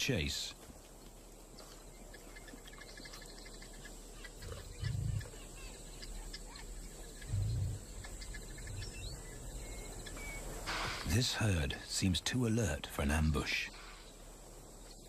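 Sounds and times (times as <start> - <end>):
small bird calls: 0.0 - 12.3, 13.0 - 15.0
insect chirps: 0.0 - 15.0.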